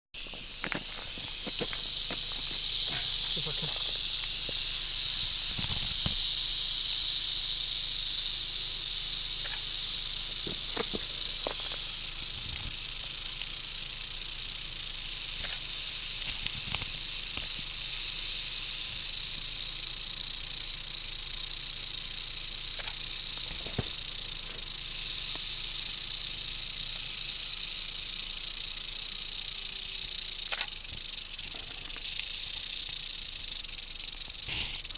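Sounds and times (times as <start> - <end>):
rattlesnake rattling: 0.2 - 34.9.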